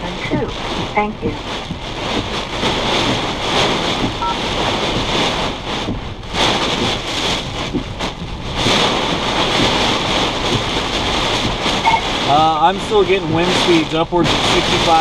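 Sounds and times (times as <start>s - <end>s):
gusting wind on vehicle: 0.0s - 15.0s
heavy rain lashing vehicle: 0.0s - 15.0s.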